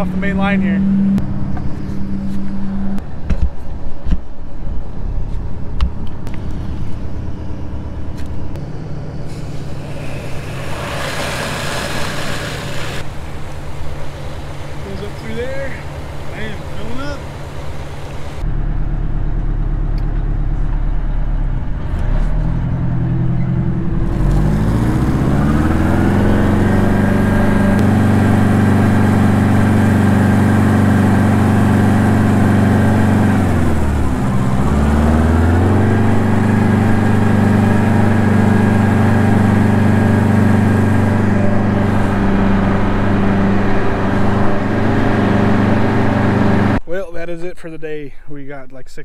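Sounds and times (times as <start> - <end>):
diesel truck engine revving: 0.0 - 3.0, 6.2 - 46.8.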